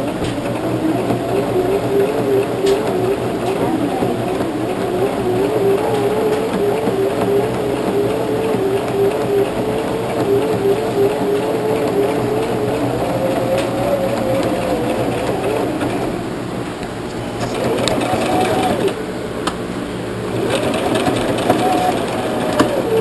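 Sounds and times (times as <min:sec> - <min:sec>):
sewing machine running: 0:00.0 - 0:19.0, 0:20.2 - 0:23.0.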